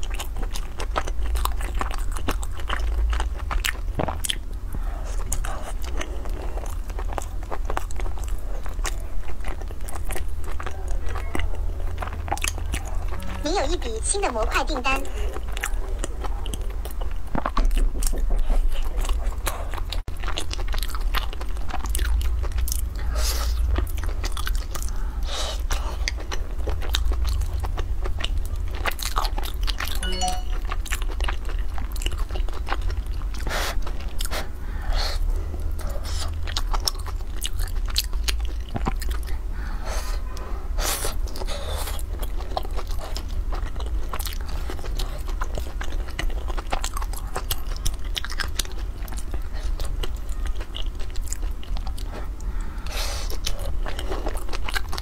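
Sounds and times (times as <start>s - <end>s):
chewing and biting food: 0.0s - 55.0s
steady low hum: 0.0s - 55.0s.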